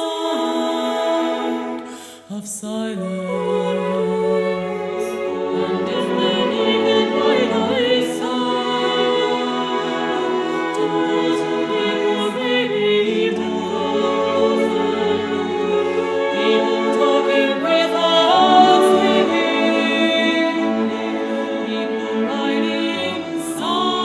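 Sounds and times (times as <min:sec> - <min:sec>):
choir singing sustained chords: 0:00.0 - 0:02.3, 0:03.0 - 0:24.0.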